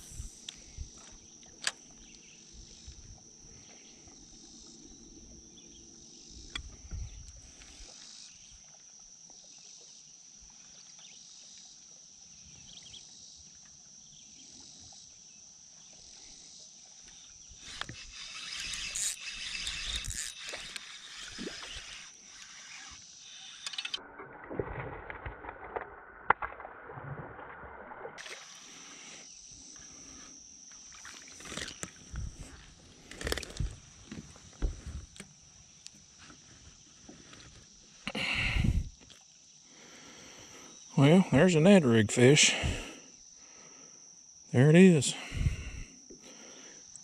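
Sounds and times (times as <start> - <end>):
high-pitched insect chorus: 0.0 - 27.2, 28.0 - 47.0.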